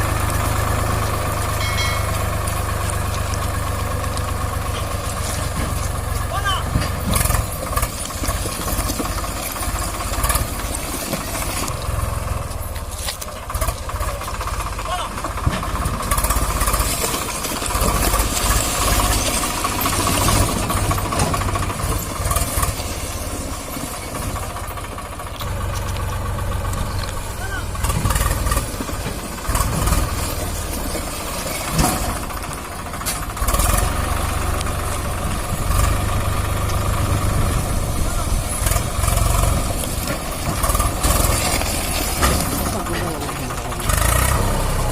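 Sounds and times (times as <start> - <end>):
tractor diesel engine chugging: 0.0 - 44.9.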